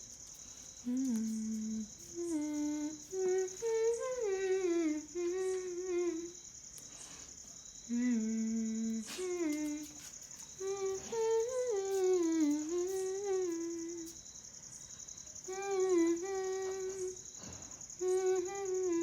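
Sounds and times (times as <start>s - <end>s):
insects chirring: 0.0s - 19.0s
woman humming a slow tune: 0.0s - 19.0s.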